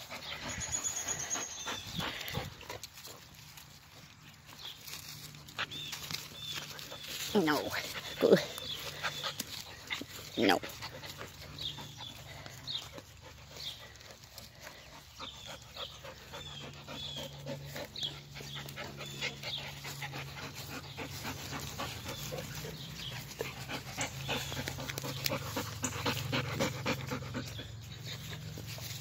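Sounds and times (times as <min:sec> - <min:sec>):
dog panting: 0:00.0 - 0:04.0, 0:04.6 - 0:29.0.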